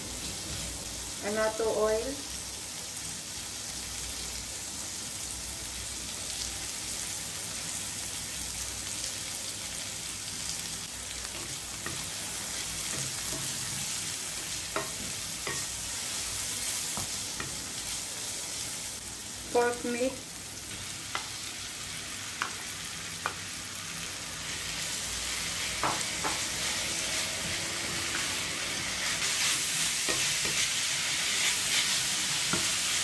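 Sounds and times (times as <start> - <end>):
onions sizzling in oil: 0.0 - 33.0.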